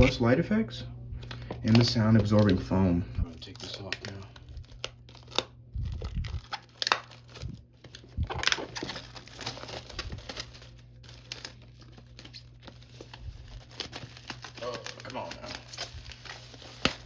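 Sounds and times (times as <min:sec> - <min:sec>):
plastic wrap crinkling and tearing: 0:01.2 - 0:17.0.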